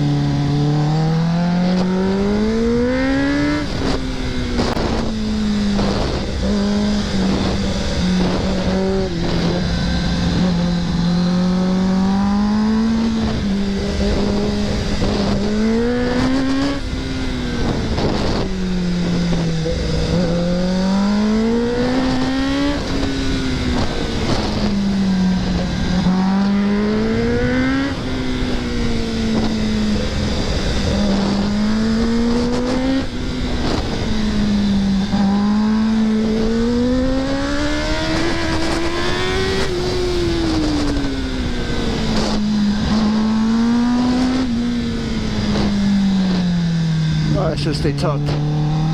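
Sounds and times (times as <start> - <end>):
motorcycle engine revving: 0.0 - 48.9
wind noise: 0.0 - 48.9.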